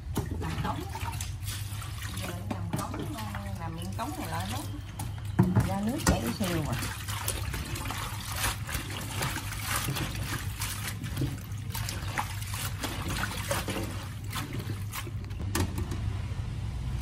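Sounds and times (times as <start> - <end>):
hands splashing leaves in water: 0.0 - 15.4
tap water running into bowl: 0.0 - 15.7.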